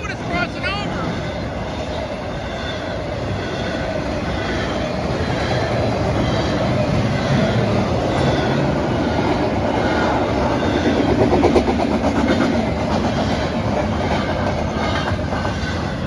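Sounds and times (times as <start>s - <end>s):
train wheels clicking over rail joints: 0.9s - 16.0s.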